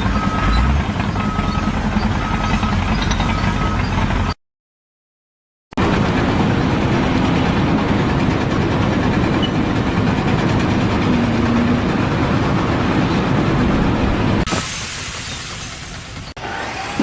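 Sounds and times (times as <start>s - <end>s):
heavy engine running: 0.0s - 4.4s, 5.8s - 17.0s.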